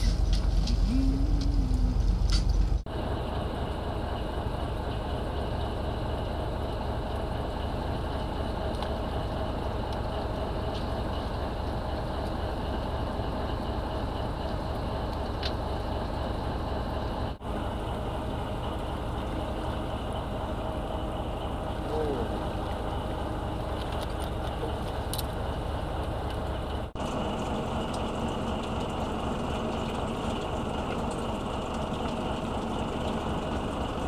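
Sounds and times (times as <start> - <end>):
boat engine rumbling: 0.0 - 34.0.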